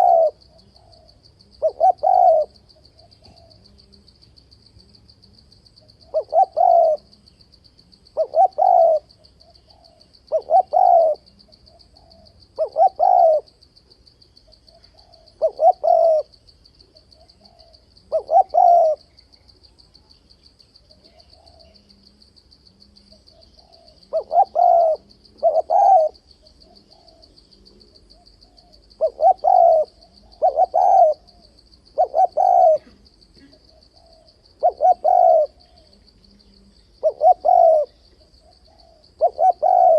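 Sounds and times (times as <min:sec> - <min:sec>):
dove cooing: 0:00.0 - 0:04.0, 0:05.8 - 0:07.2, 0:08.1 - 0:13.6, 0:14.4 - 0:19.1, 0:20.9 - 0:22.3, 0:22.9 - 0:39.9
high pulsing insect trill: 0:00.0 - 0:39.9.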